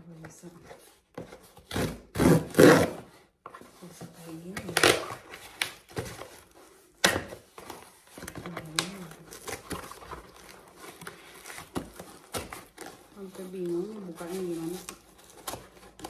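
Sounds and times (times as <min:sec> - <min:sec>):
cardboard rustling and crinkling: 0:00.0 - 0:16.0.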